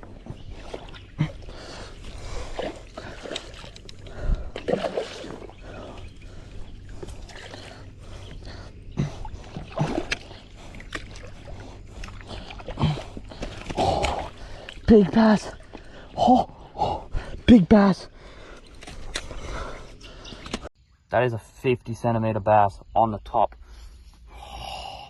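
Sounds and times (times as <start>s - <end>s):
water splashing and sloshing: 0.0s - 20.7s.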